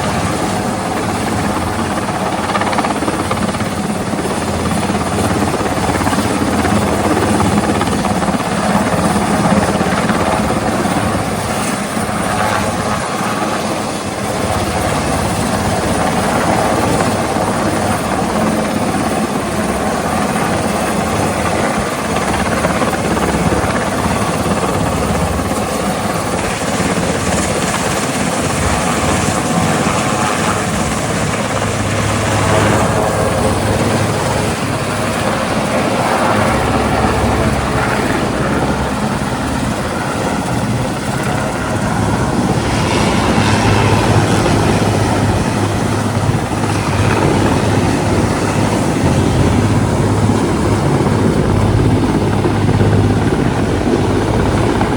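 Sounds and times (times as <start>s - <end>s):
helicopter flying overhead: 0.0s - 54.9s.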